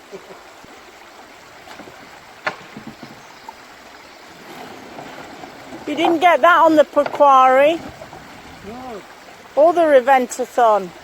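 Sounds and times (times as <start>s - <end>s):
brook water running: 0.0s - 11.0s.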